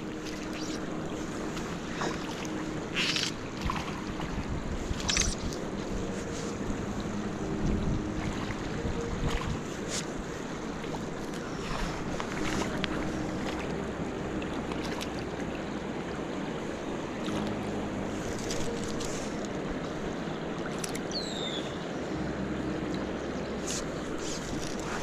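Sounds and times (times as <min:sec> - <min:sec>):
water running over rocks: 0:00.0 - 0:21.5
wind on microphone: 0:00.0 - 0:25.0.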